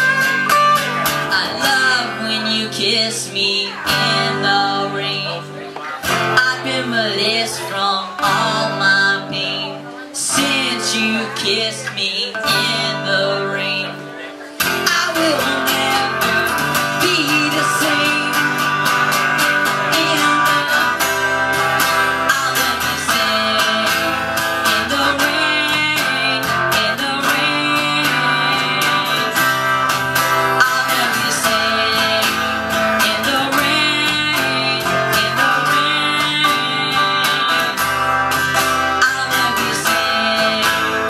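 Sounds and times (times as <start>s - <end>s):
two acoustic guitars playing: 0.0s - 41.0s.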